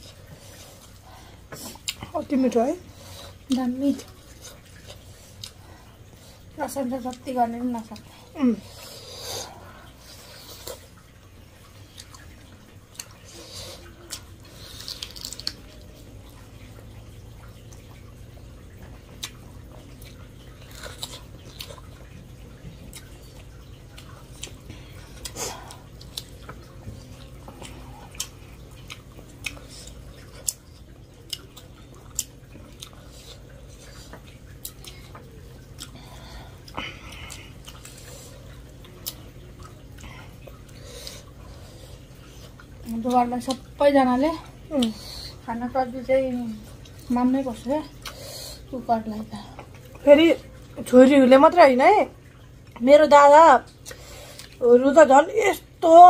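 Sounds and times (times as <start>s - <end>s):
wet eating sounds: 0.0s - 56.0s.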